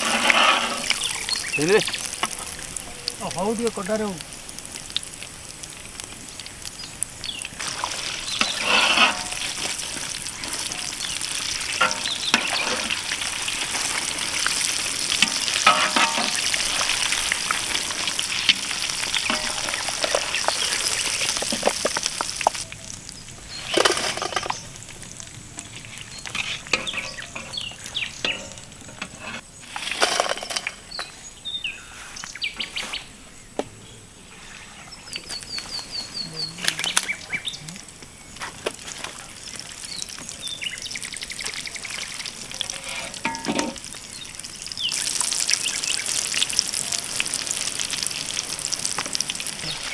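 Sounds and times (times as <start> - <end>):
food deep-frying in oil: 0.0 - 49.9.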